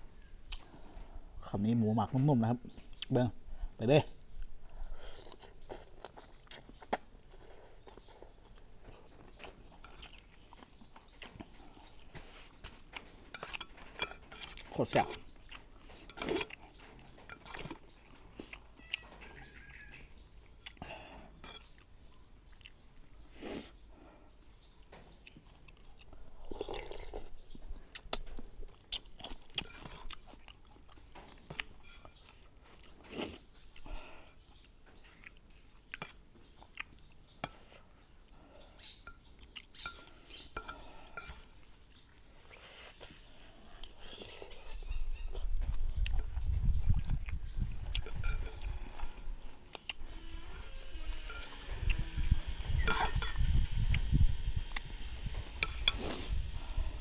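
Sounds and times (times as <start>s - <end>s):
person chewing noodles: 4.6s - 19.0s, 20.2s - 23.8s, 24.6s - 53.0s.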